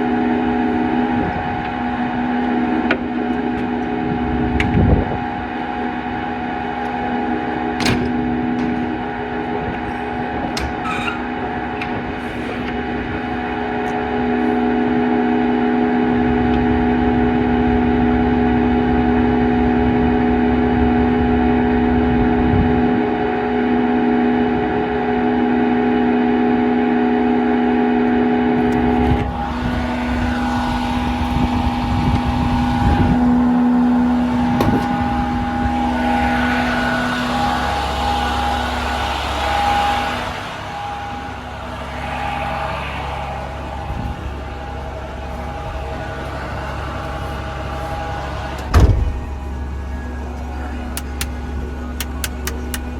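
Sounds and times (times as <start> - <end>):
truck diesel engine running: 0.0 - 52.9.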